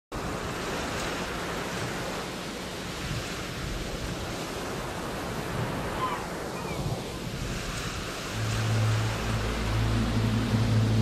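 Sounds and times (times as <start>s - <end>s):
steady rushing noise: 0.1s - 11.0s.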